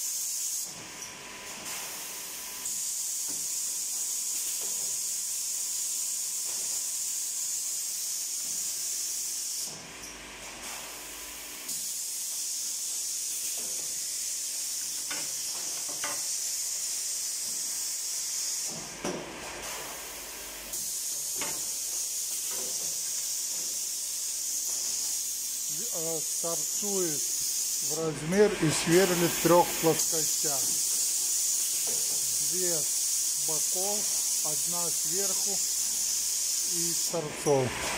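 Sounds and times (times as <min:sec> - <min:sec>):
woodworking machine hissing: 0:01.5 - 0:09.8, 0:10.6 - 0:37.9.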